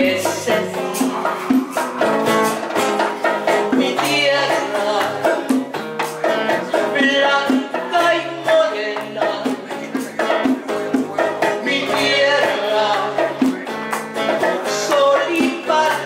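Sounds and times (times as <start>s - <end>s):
woman singing: 0.0s - 2.6s, 3.2s - 10.6s, 11.3s - 13.6s, 14.3s - 16.0s
hand percussion: 0.0s - 16.0s
strummed nylon-string guitar: 0.0s - 16.0s.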